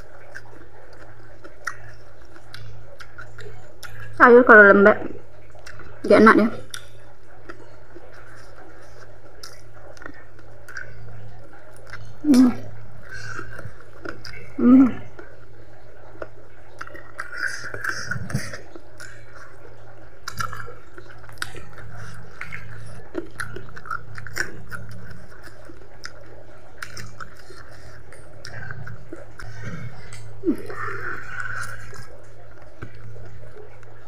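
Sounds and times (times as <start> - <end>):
person chewing wetly: 0.0 - 4.2, 5.0 - 34.0.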